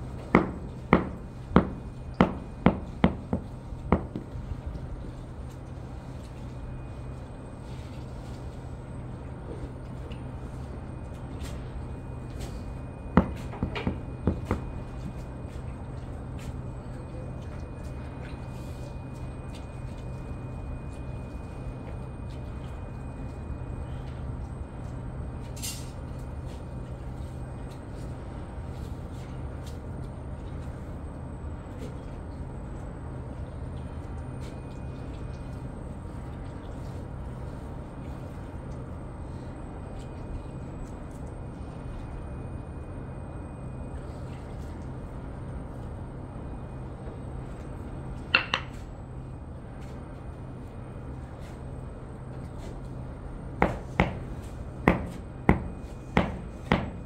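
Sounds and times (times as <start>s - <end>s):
low workshop hum: 0.0s - 57.0s.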